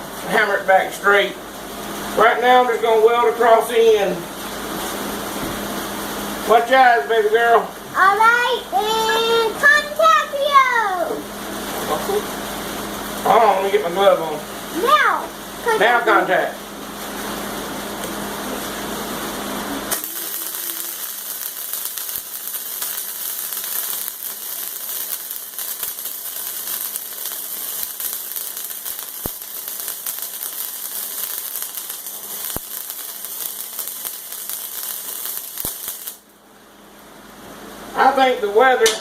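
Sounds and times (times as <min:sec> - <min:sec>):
arc welding crackle: 0:00.0 - 0:39.0.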